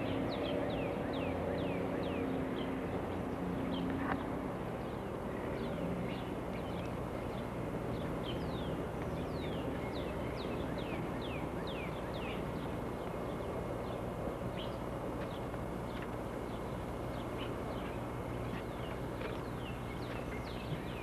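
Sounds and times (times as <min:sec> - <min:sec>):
low hum and hiss: 0:00.0 - 0:21.0.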